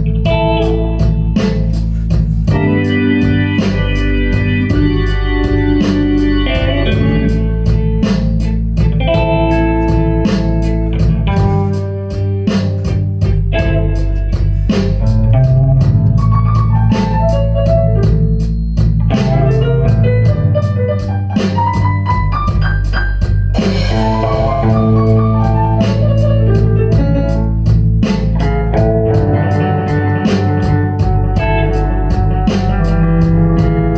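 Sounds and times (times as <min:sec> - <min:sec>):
blues-rock band playing live: 0:00.0 - 0:33.9
organ keyboard: 0:00.0 - 0:33.9.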